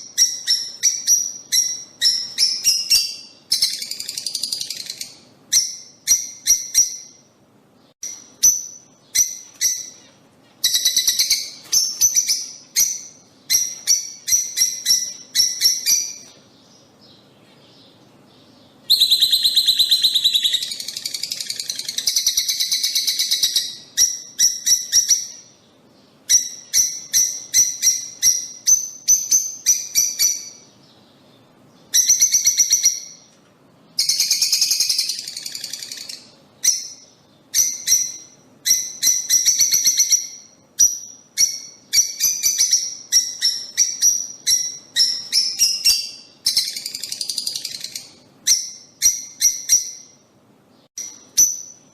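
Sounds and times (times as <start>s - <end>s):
lovebirds chirping: 0.0s - 51.9s.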